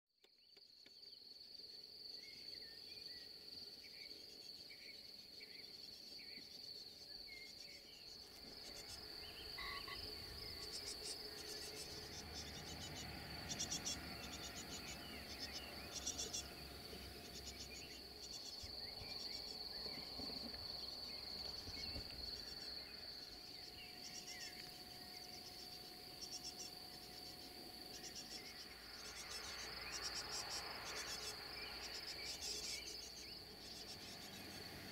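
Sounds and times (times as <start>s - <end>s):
insects trilling: 0.5s - 34.9s.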